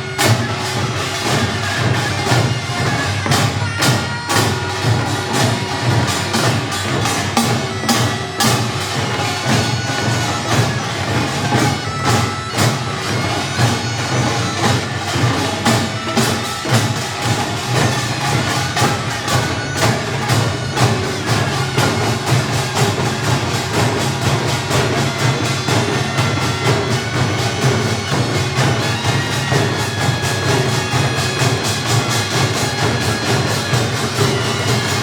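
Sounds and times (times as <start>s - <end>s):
drums beating fast rhythm: 0.0s - 35.0s
small gongs clanging: 0.0s - 35.0s.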